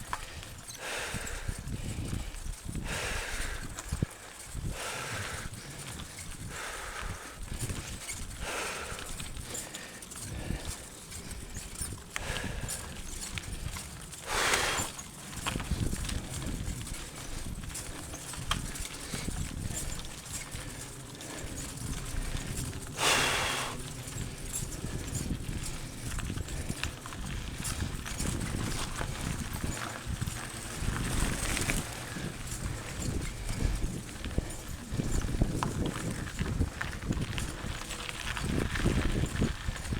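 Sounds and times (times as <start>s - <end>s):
bike rattling over rough trail: 0.0s - 39.9s.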